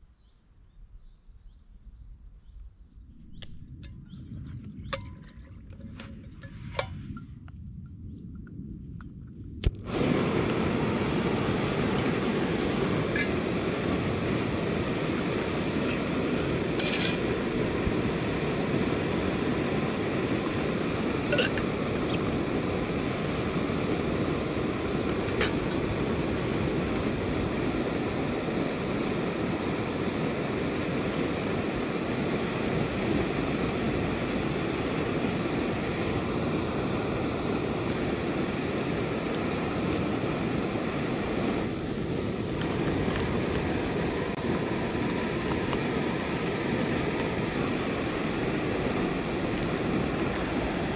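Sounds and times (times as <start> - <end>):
gas burner hissing: 9.4 - 50.9.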